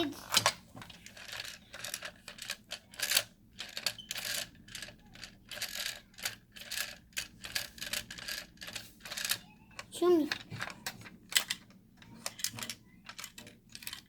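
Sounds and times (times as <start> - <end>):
plastic toy parts clicking: 0.0 - 14.0.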